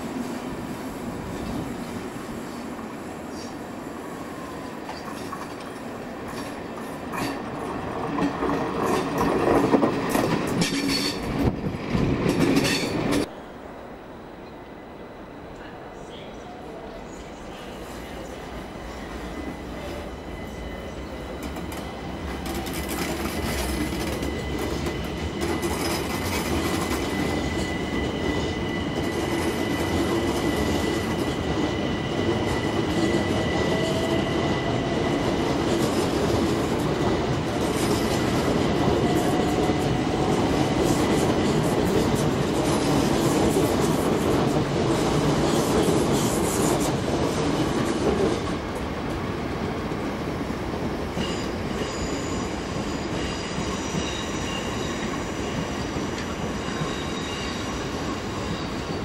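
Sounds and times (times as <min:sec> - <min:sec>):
train wheels rumbling on rails: 0:00.0 - 0:13.4, 0:17.6 - 0:59.0.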